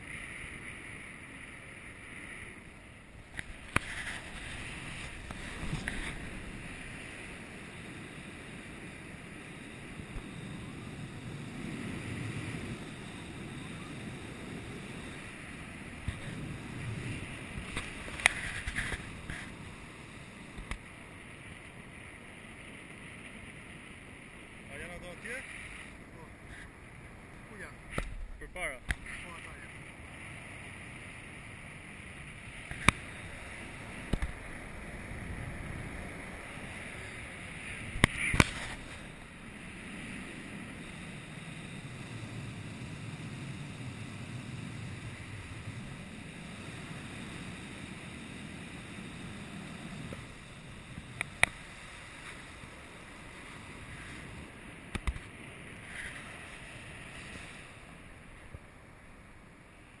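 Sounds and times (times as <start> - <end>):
wind rushing over microphone: 0.0 - 58.8.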